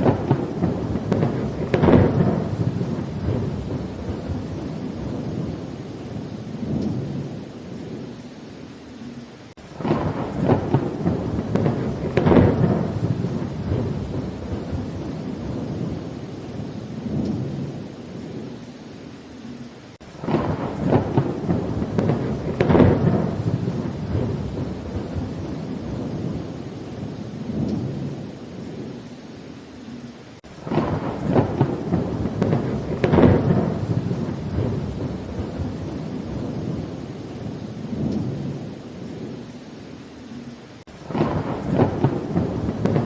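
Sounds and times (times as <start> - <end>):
thunder rolling: 0.0 - 8.1, 9.6 - 18.6, 20.1 - 28.9, 30.4 - 39.4, 40.8 - 43.0
steady rain: 0.0 - 43.0.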